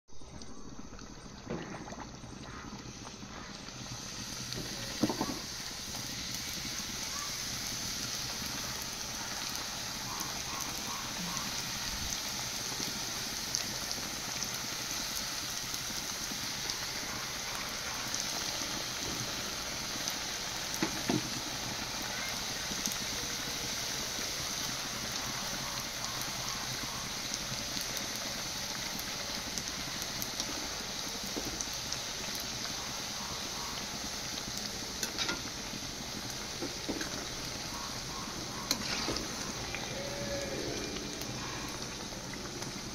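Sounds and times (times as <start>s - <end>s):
food deep-frying in hot oil: 0.2s - 42.9s.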